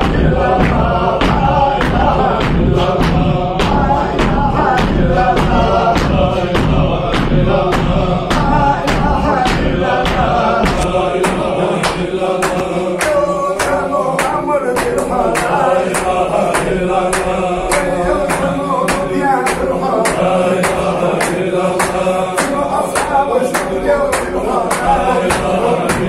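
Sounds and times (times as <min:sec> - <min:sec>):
men chanting in unison: 0:00.0 - 0:26.0
sharp rhythmic beats: 0:00.0 - 0:26.0.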